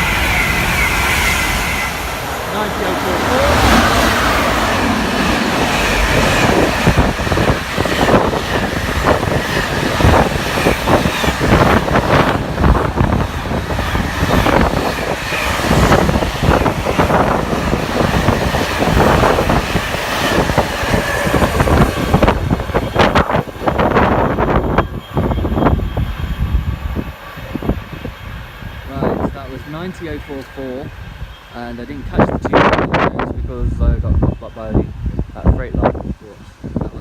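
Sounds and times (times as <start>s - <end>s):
high hiss of passing train: 0.0s - 37.0s
train wheels rumbling over rail joints: 0.0s - 37.0s.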